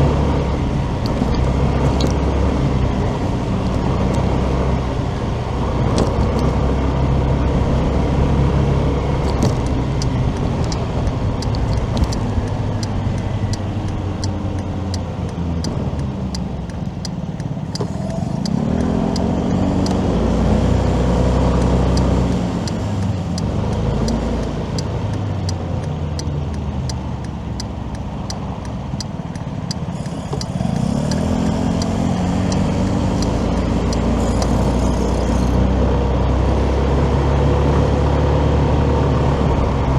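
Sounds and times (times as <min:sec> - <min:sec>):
motorcycle engine accelerating: 0:00.0 - 0:39.9
road noise: 0:00.0 - 0:39.9
light ticking: 0:00.4 - 0:36.8.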